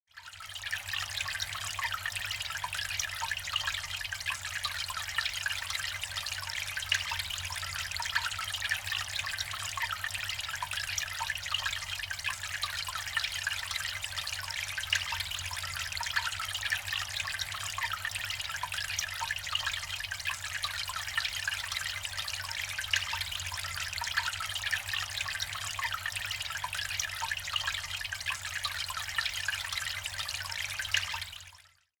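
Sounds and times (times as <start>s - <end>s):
fountain water trickling and splashing: 0.1s - 31.9s.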